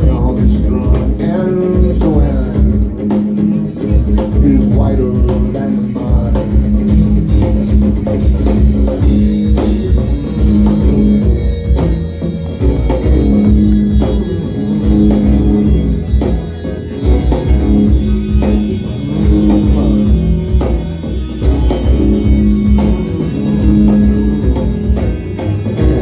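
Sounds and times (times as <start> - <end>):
guitar: 0.0 - 26.0
upright bass riff: 0.0 - 26.0.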